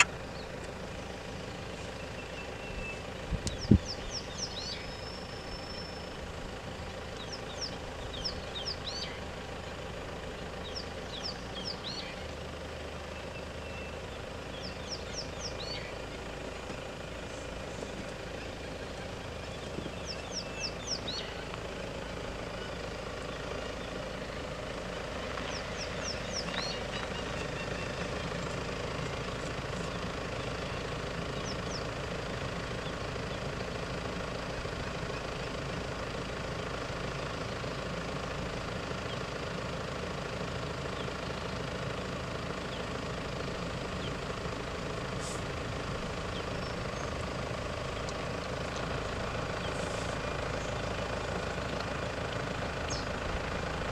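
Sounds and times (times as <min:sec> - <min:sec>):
bird calling: 0:00.0 - 0:39.6, 0:40.7 - 0:53.9
car engines idling: 0:00.0 - 0:53.9.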